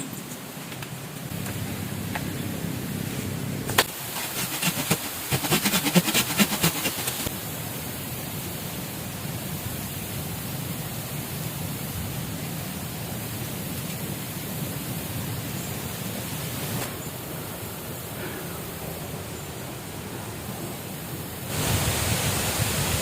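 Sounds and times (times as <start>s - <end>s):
flowing river water: 3.8s - 23.0s.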